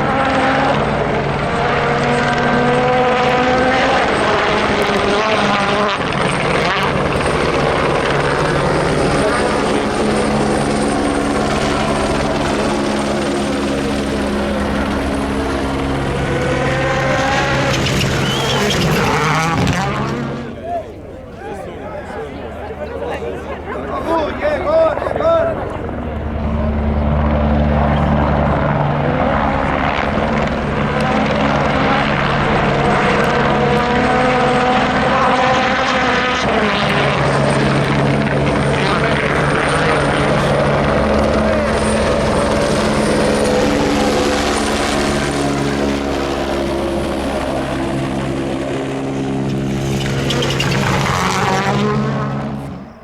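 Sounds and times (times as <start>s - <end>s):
car engine revving: 0.0s - 20.7s, 26.0s - 53.0s
helicopter hovering: 0.0s - 53.0s.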